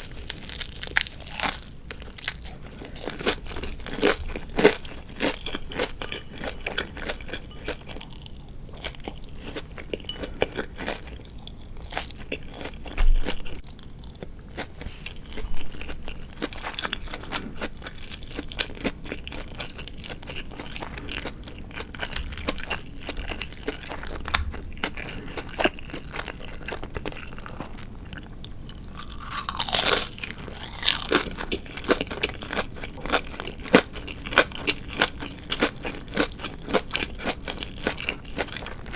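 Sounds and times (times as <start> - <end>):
chewing crunchy fried chicken: 0.0 - 38.9.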